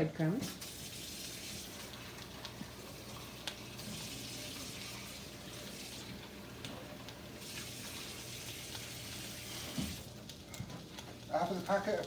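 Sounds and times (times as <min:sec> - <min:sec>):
onions sizzling in a frying pan: 0:00.0 - 0:12.0.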